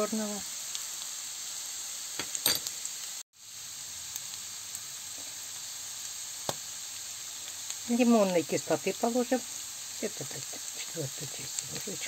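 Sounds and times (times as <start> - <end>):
mushrooms sizzling in a pan: 0.0 - 12.0.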